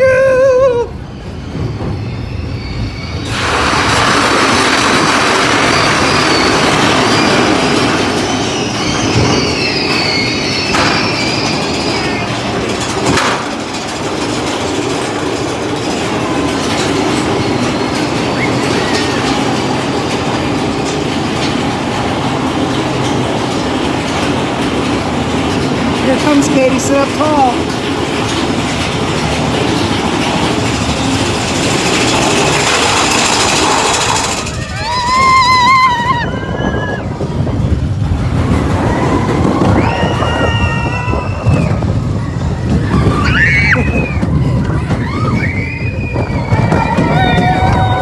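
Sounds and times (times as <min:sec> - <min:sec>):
high wavering wheel squeal: 0:00.0 - 0:27.6, 0:28.2 - 0:48.0
roller coaster cars rattling: 0:00.0 - 0:48.0.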